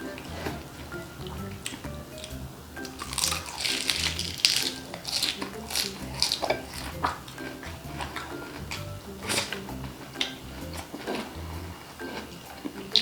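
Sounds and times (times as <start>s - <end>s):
background music: 0.0s - 13.0s
crunchy food being chewed: 0.0s - 13.0s.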